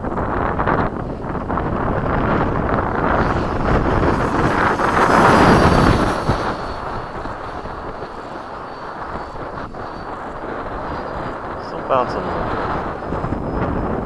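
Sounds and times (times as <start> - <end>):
high whine sliding down: 0.0 - 14.0
model jet fan rushing: 0.0 - 14.0.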